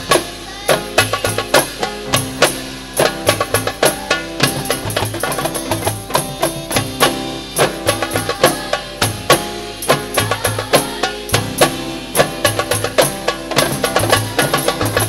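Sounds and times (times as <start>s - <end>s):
frame drums beating fast rhythm: 0.0s - 15.0s
group singing: 0.0s - 15.0s.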